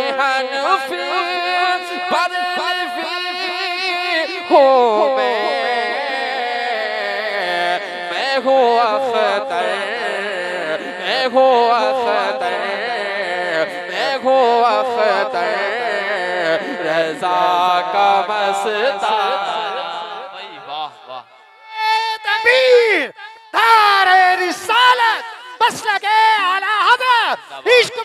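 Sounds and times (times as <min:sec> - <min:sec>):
man singing devotional song: 0:00.0 - 0:28.0.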